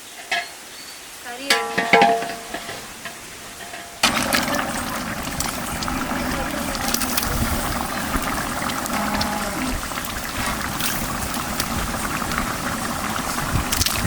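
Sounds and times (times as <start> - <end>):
stew bubbling in a pot: 1.9 - 14.0.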